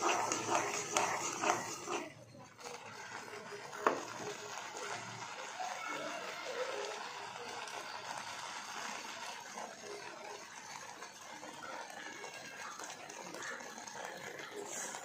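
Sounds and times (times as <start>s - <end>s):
milk mixture simmering in a pan: 0.0s - 15.0s.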